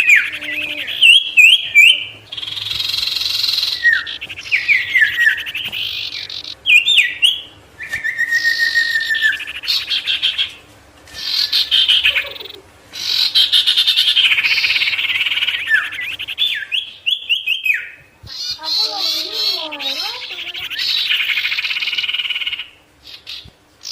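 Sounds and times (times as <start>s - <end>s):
songbird trilling and chirping: 0.0s - 23.9s.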